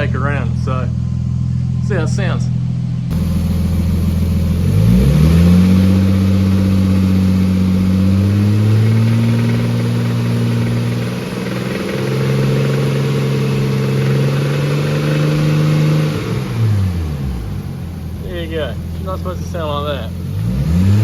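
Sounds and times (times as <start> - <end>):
engine revving and knocking: 2.6 - 21.0.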